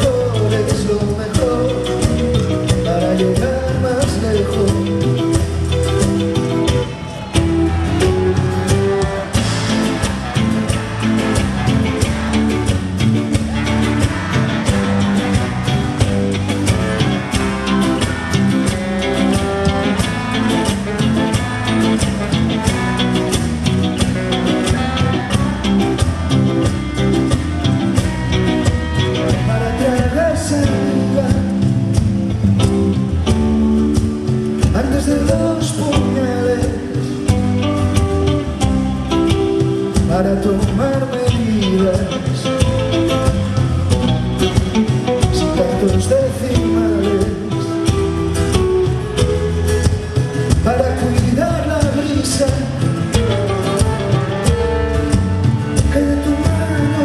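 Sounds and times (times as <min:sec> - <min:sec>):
guitar: 0:00.0 - 0:57.0
live band playing instrumental: 0:00.0 - 0:57.0
steady drum beat: 0:00.0 - 0:57.0.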